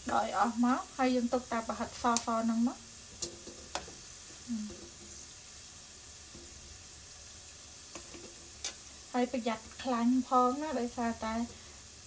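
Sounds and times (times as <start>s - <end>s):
oil bubbling and hissing: 0.0s - 12.0s.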